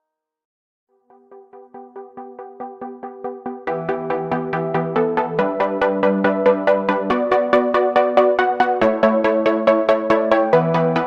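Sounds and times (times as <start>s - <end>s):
pulsing synth chord: 1.0s - 11.0s.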